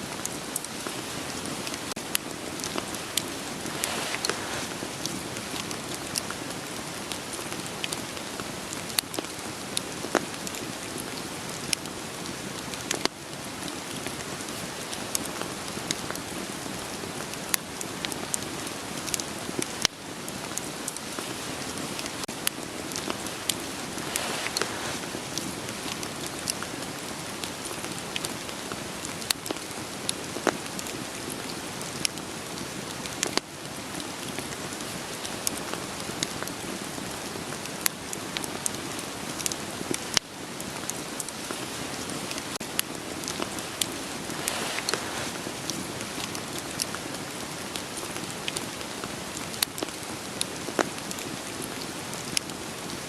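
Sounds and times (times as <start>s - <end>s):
campfire crackling: 0.0s - 53.0s
rain hissing: 0.0s - 53.0s.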